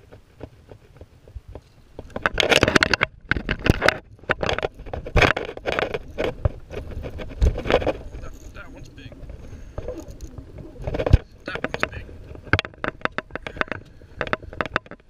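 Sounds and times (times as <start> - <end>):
scraping and rustling of handling: 0.0 - 15.0.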